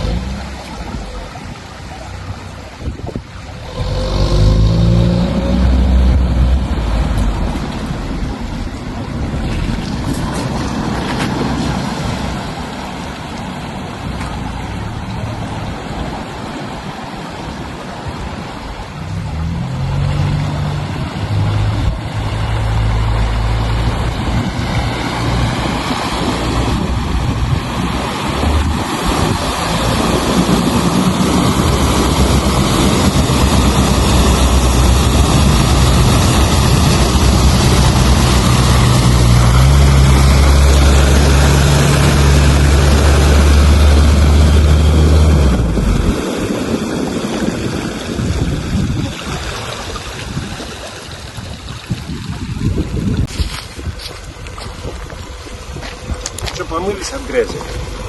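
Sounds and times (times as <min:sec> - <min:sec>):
all-terrain vehicle engine: 0:00.0 - 0:51.6, 0:52.4 - 0:58.0
water rushing and splashing: 0:00.0 - 0:58.0.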